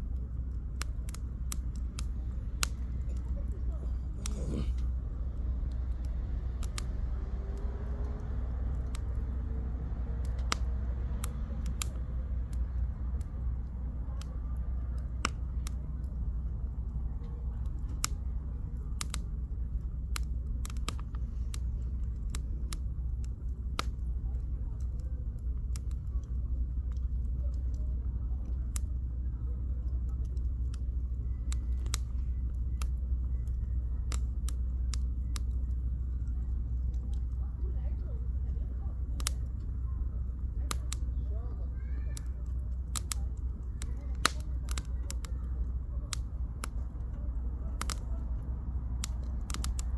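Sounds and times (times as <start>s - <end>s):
campfire crackling and popping: 0.0s - 49.9s
steady low rumble: 0.0s - 49.9s.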